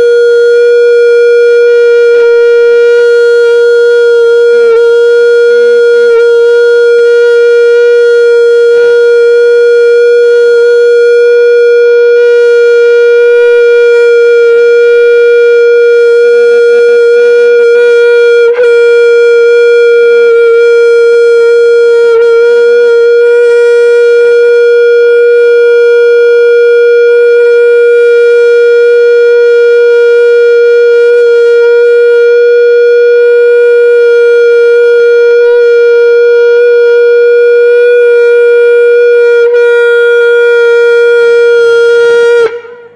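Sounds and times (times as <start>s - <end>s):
steady tone over pa: 0.0s - 42.9s.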